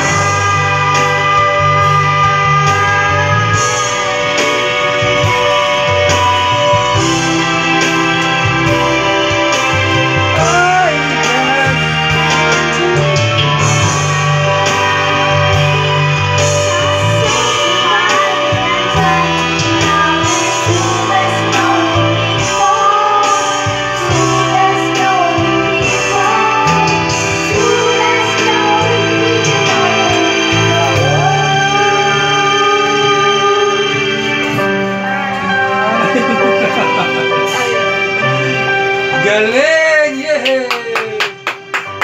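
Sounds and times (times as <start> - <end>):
person singing into microphone: 0.0 - 38.0
backing track with guitar and bass: 0.0 - 42.0.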